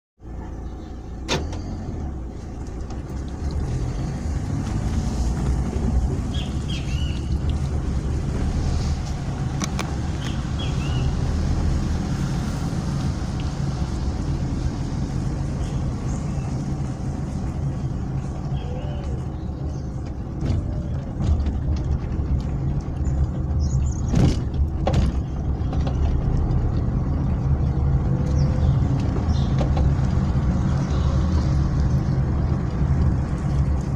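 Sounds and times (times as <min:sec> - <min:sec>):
car engine and road rumble: 0:00.2 - 0:33.9.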